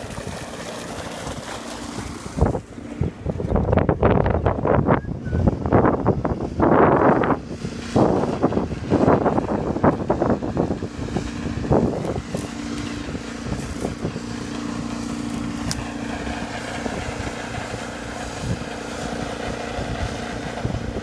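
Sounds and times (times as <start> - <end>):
engine-driven water pump humming: 0.0 - 21.0
wind buffeting microphone: 0.0 - 21.0.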